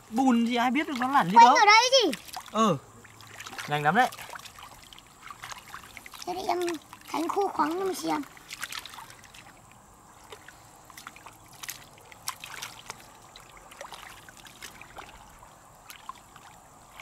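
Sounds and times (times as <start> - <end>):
hands splashing in muddy water: 0.8 - 2.6, 3.2 - 9.6, 10.2 - 17.0.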